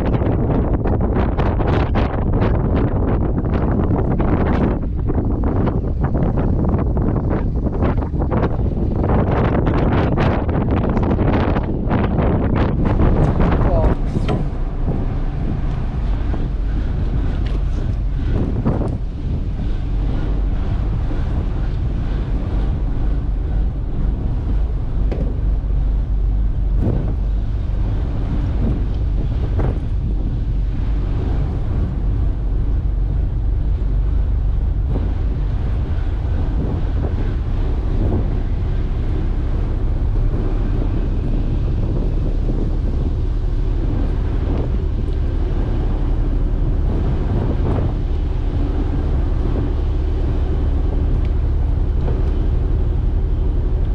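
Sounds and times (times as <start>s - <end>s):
strong wind buffeting microphone: 0.0s - 53.9s.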